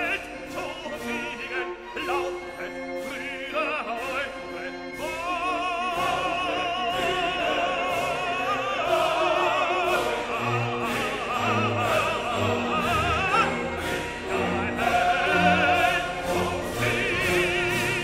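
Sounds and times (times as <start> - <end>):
operatic singing with vibrato: 0.0 - 18.0
orchestral accompaniment: 0.0 - 18.0.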